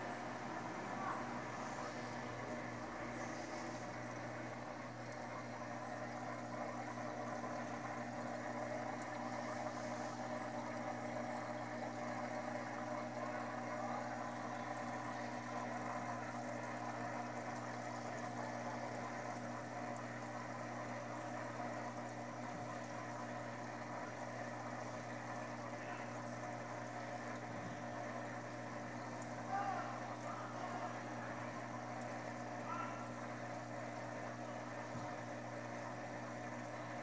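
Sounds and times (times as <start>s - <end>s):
aquarium filter pump humming: 0.0s - 37.0s.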